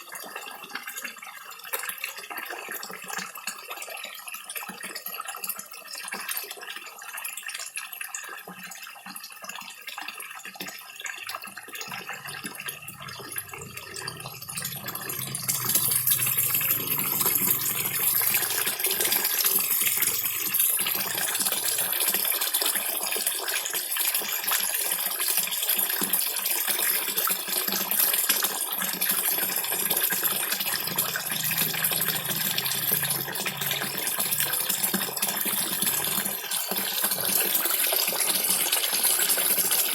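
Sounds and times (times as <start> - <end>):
waterfall trickling into pond: 0.0 - 39.9
fish splashing and slurping: 7.3 - 39.9.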